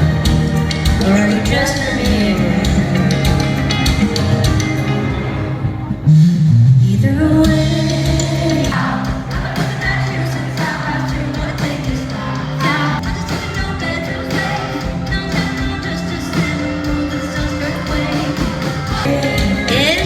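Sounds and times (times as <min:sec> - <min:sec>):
pop-rock music with singing: 0:00.0 - 0:06.1, 0:06.8 - 0:20.0.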